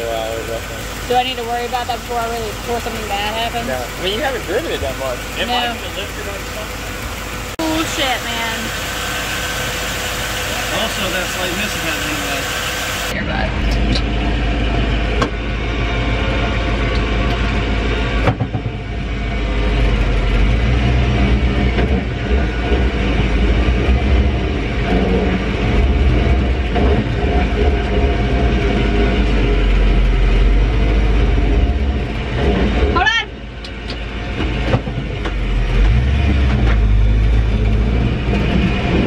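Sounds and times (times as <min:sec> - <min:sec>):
truck engine rumbling and clattering: 0:00.0 - 0:39.0.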